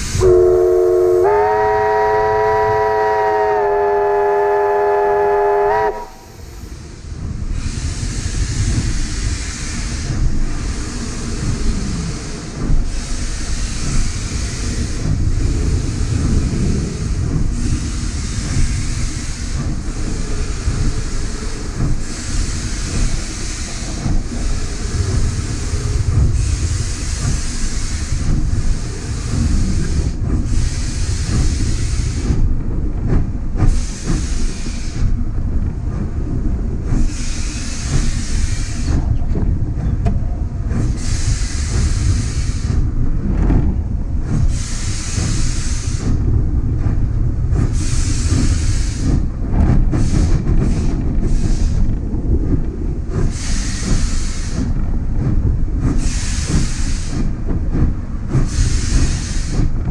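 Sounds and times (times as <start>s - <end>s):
steam hiss: 0.0s - 39.4s, 40.6s - 59.9s
steam locomotive rumble: 0.0s - 59.9s.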